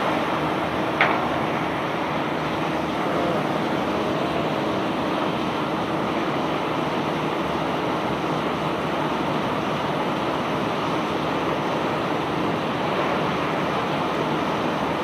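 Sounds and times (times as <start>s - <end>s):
barge discharging bulk cargo: 0.0s - 15.0s.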